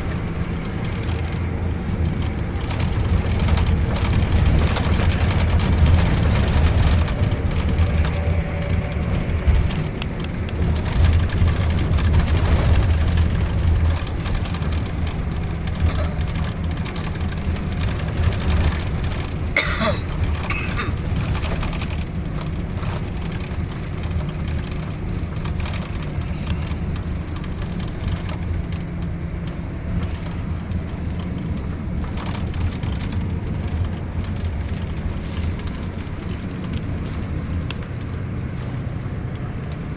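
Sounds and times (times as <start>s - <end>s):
bus diesel engine droning: 0.0s - 39.9s
road noise: 0.0s - 39.9s.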